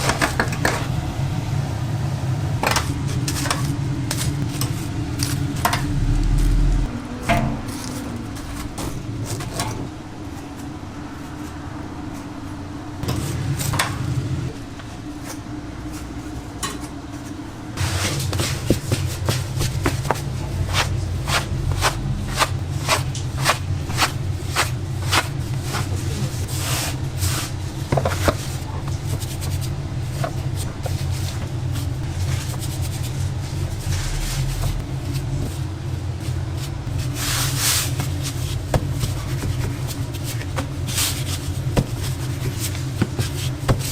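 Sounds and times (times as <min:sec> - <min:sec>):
steady machine hum: 0:00.0 - 0:43.9.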